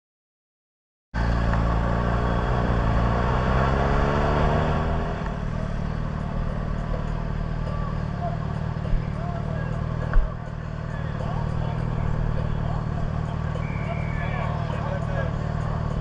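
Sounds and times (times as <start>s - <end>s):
road noise: 1.2s - 16.0s
vehicle engine: 1.2s - 16.0s.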